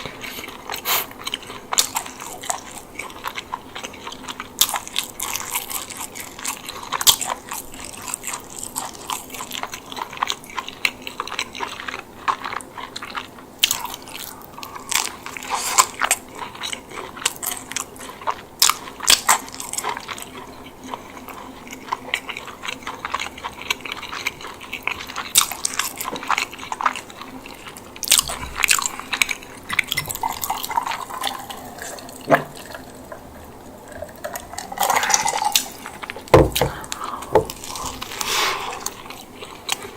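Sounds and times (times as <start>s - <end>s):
chewing: 0.0s - 39.9s.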